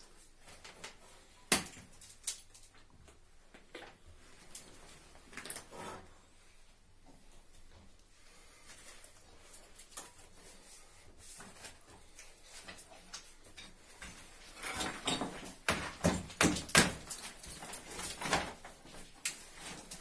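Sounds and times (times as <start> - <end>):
plastic pipes rustling: 0.0 - 20.0.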